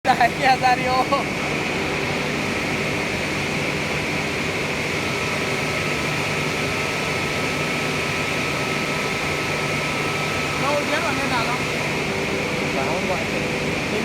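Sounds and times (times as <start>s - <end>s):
rolling mill machinery drone: 0.0s - 14.0s.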